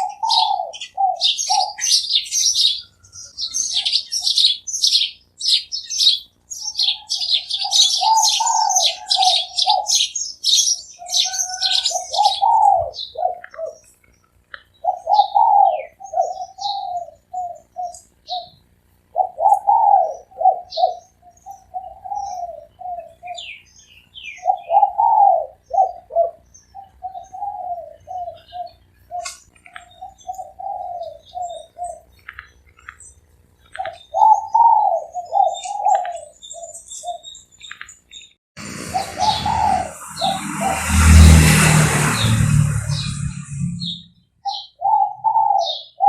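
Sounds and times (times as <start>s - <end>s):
dove cooing: 0.0s - 5.0s, 6.0s - 13.9s, 14.8s - 23.6s, 24.2s - 33.0s, 33.6s - 37.4s, 38.7s - 40.7s, 44.5s - 46.0s
small birds chirping: 0.0s - 40.9s, 42.1s - 46.0s.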